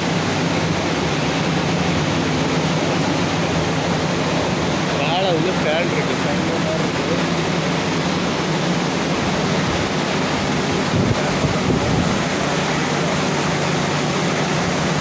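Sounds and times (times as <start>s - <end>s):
fan motors humming: 0.0s - 15.0s
water falling in cooling tower: 0.0s - 15.0s.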